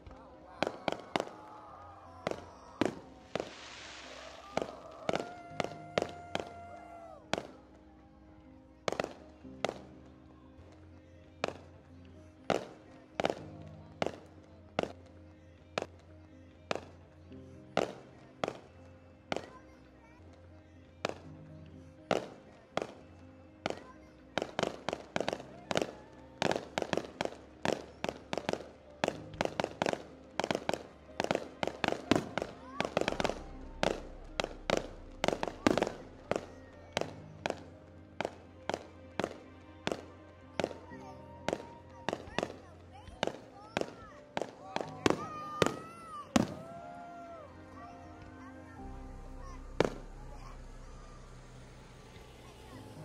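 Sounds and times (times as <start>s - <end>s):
fireworks bursting: 0.0s - 7.7s, 8.8s - 10.0s, 12.4s - 15.0s, 17.7s - 19.7s, 22.1s - 53.0s
music with long held notes: 0.0s - 53.0s.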